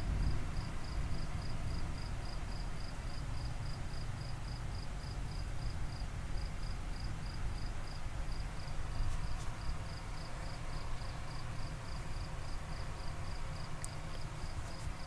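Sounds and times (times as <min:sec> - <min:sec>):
cricket chirping: 0:00.0 - 0:15.0
low steady rumbling: 0:00.0 - 0:15.0.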